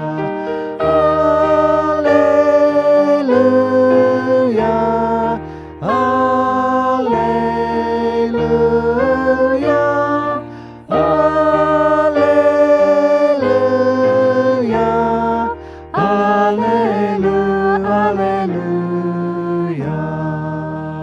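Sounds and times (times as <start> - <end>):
voices singing a hymn in harmony: 0.0 - 21.0.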